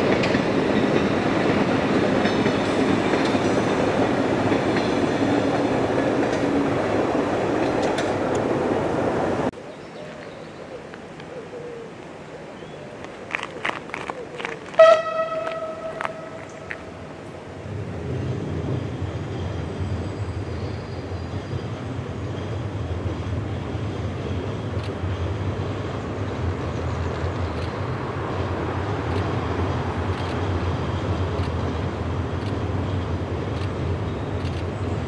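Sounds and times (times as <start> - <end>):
train wheels rolling: 0.0 - 9.5, 13.0 - 35.0
train engine drone: 0.0 - 9.6, 13.0 - 35.0.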